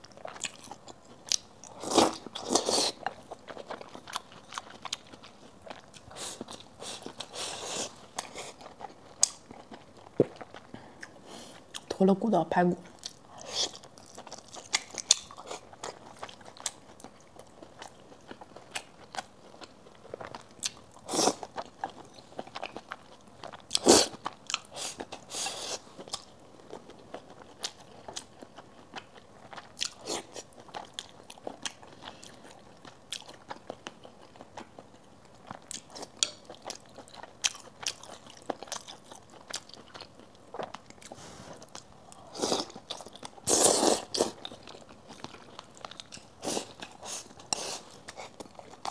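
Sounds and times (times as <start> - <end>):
person chewing and biting food: 0.0 - 11.9, 12.9 - 48.9.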